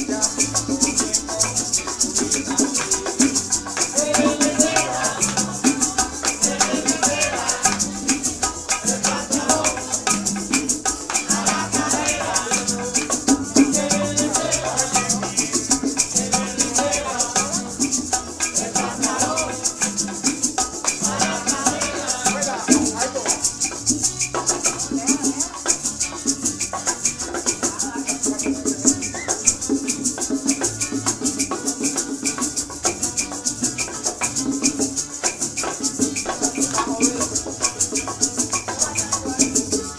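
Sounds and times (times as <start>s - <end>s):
maracas shaking: 0.0s - 39.9s.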